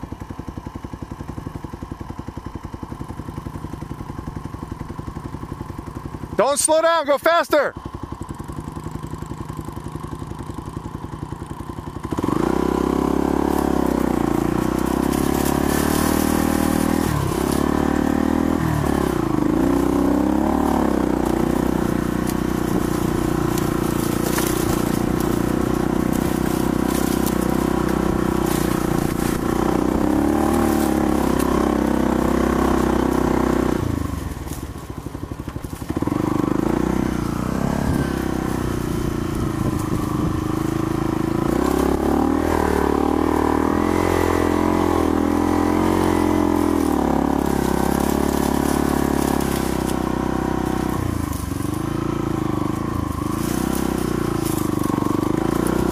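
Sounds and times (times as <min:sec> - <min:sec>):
small off-road engine revving: 0:00.0 - 0:55.9.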